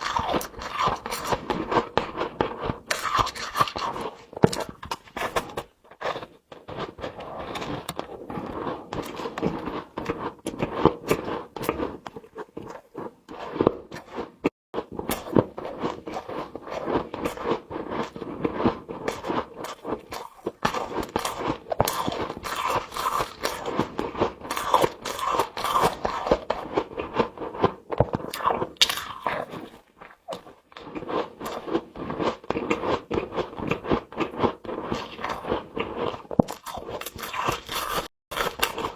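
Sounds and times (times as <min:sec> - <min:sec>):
chewing and crunching frost: 0:00.0 - 0:38.9.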